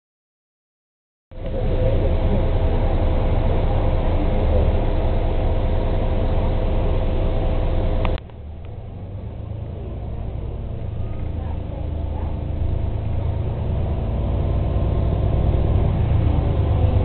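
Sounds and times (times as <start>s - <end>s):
bus engine rumble: 1.3s - 17.0s
drivetrain whine: 1.3s - 17.0s.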